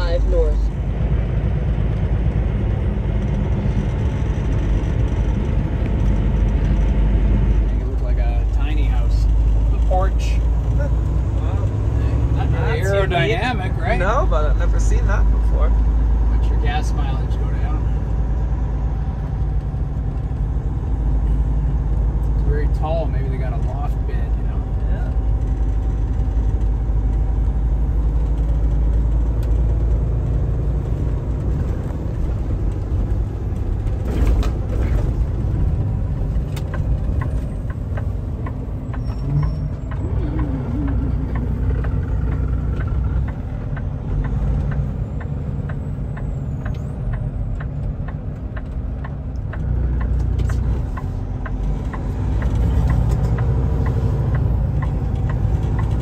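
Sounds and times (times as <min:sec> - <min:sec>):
truck diesel engine rumble: 0:00.0 - 0:56.0
regular ticking: 0:04.9 - 0:56.0.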